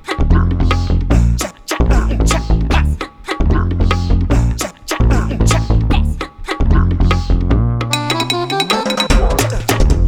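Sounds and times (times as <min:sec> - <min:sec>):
bass guitar: 0:00.0 - 0:10.0.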